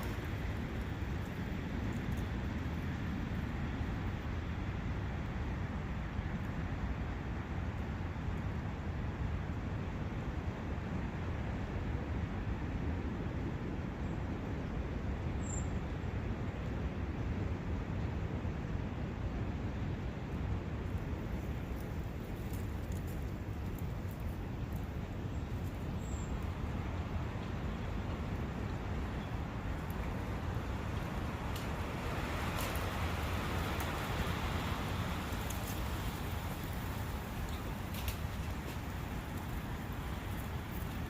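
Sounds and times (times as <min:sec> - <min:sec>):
wind: 0:00.0 - 0:41.0.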